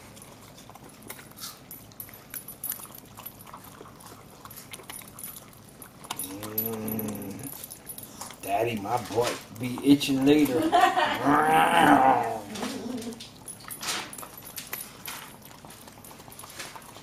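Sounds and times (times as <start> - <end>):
dogs chewing and smacking: 0.0 - 17.0.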